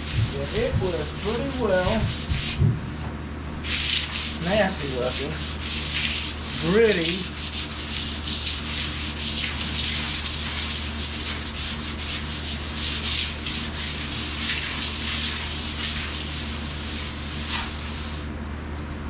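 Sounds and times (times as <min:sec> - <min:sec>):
sandpaper scraping paint: 0:00.0 - 0:02.6, 0:03.6 - 0:18.3.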